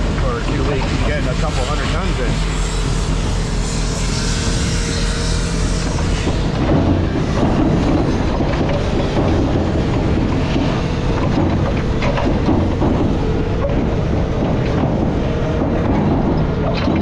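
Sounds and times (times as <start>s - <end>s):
low engine drone: 0.0s - 17.0s
metallic clattering and clanking: 0.0s - 17.0s.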